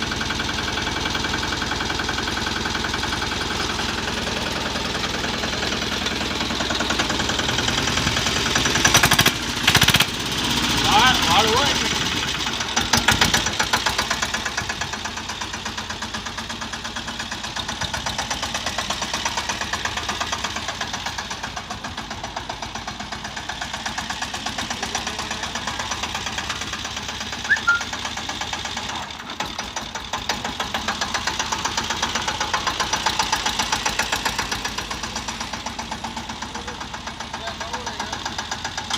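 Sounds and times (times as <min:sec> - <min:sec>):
small tractor engine knocking: 0:00.0 - 0:38.9.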